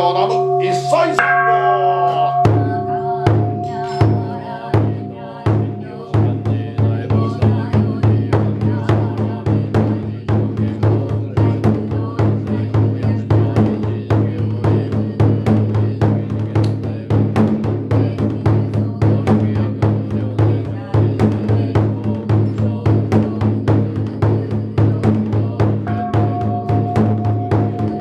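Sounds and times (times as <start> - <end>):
taiko drum beaten steadily: 0.0 - 28.0.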